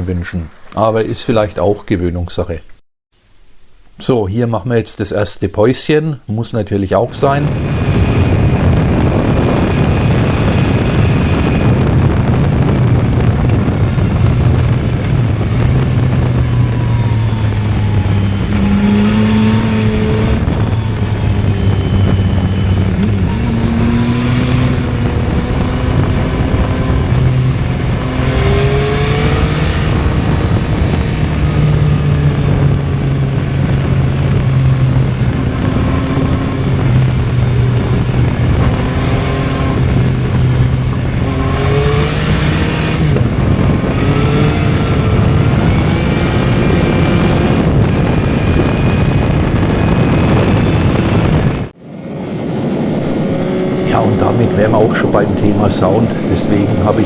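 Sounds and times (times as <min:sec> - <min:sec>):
motorcycle engine revving: 0:07.1 - 0:57.0.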